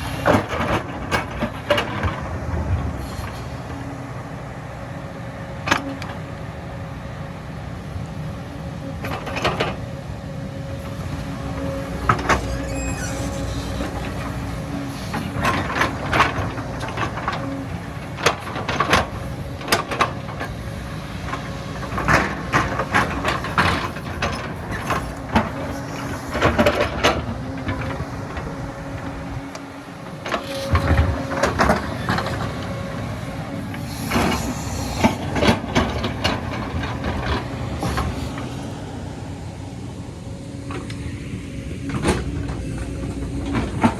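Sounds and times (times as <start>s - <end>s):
excavator diesel engine: 0.0s - 43.9s.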